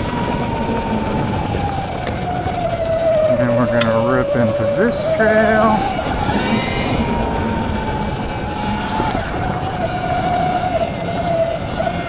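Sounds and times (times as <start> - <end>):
electric motor whining: 0.0 - 12.0
wind and tyres rumbling: 0.0 - 12.0.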